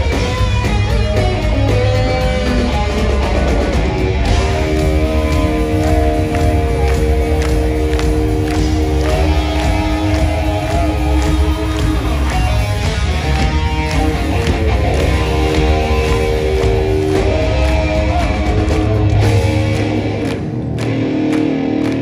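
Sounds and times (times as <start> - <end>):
live hard rock band: 0.0 - 22.0.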